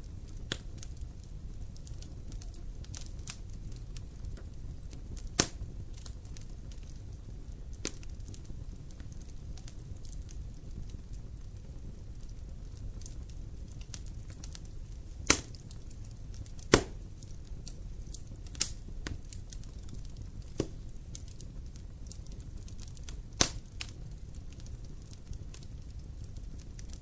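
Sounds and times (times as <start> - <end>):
fire rumbling and crackling: 0.0 - 27.0
sharp pops of burning wood: 0.0 - 27.0.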